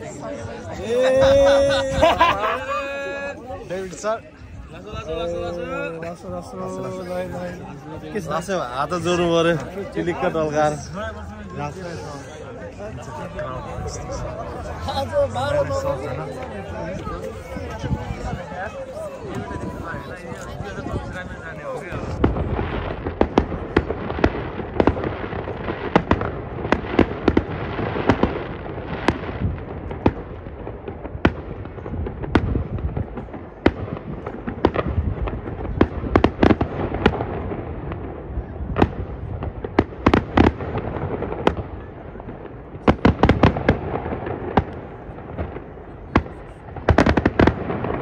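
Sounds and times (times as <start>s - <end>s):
fireworks crackling: 0.0s - 48.0s
fireworks bangs: 5.0s - 48.0s.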